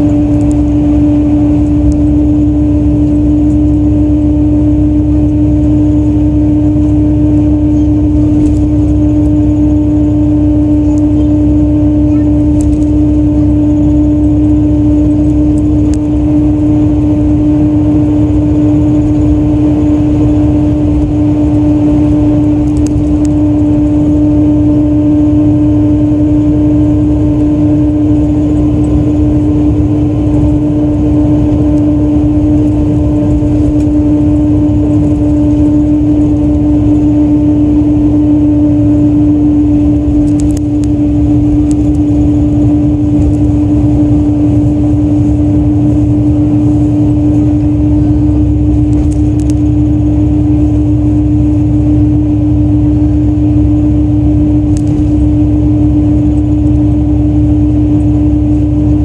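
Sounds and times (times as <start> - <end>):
bus engine idling rumble: 0.0 - 59.0
mid-pitched hum: 0.0 - 59.0.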